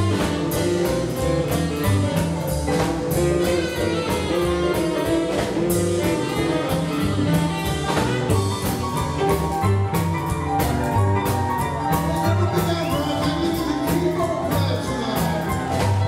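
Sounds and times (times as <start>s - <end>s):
double bass line: 0.0s - 16.0s
drum beat: 0.0s - 16.0s
electric guitar: 0.0s - 16.0s
rockabilly band playing live: 0.0s - 16.0s
saxophone: 0.0s - 16.0s.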